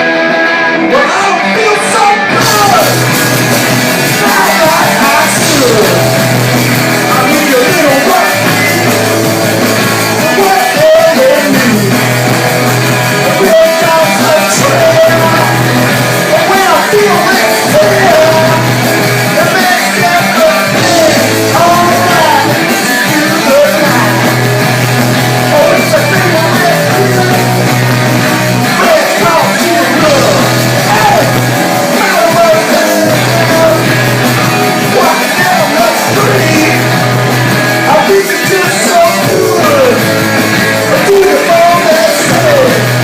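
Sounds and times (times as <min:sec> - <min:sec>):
bass guitar: 0:00.0 - 0:43.0
drums: 0:00.0 - 0:43.0
electric guitar: 0:00.0 - 0:43.0
lead singer vocals: 0:00.9 - 0:12.3, 0:13.0 - 0:43.0.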